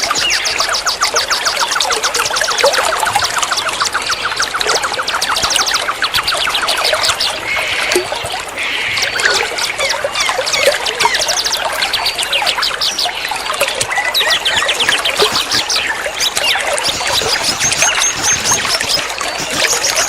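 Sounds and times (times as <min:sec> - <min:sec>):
songbirds chirping and trilling: 0:00.0 - 0:20.0
trickle of running water: 0:00.0 - 0:20.0.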